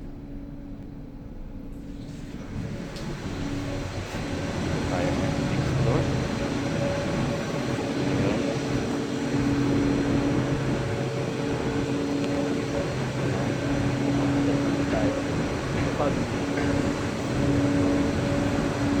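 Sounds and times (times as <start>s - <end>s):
industrial machinery drone: 0.0s - 19.0s
low hum tones: 0.0s - 19.0s.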